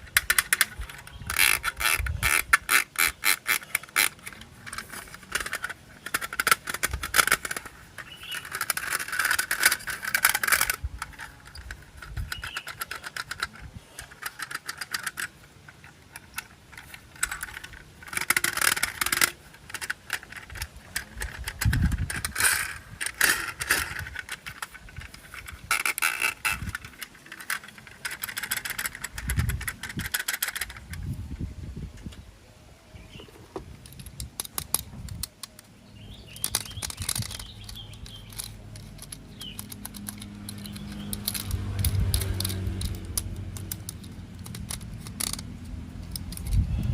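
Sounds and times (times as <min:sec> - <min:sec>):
plastic toy parts clicking: 0:00.0 - 0:31.2, 0:33.6 - 0:46.9
plastic parts scraping: 0:00.0 - 0:31.4, 0:33.1 - 0:46.9.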